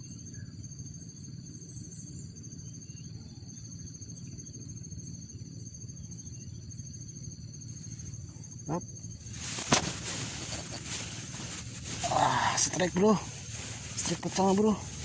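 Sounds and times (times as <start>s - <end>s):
constant low hum: 0.0s - 15.0s
insects chirring: 0.0s - 15.0s.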